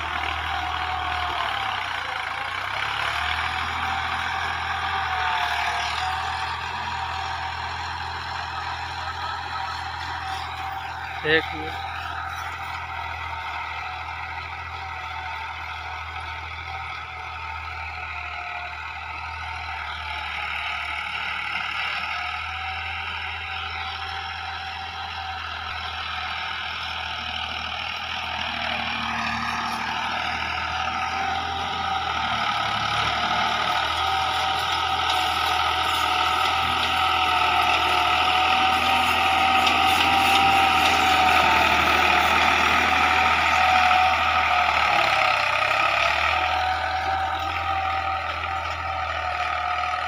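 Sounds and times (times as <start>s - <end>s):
tractor engine under load: 0.0s - 50.0s.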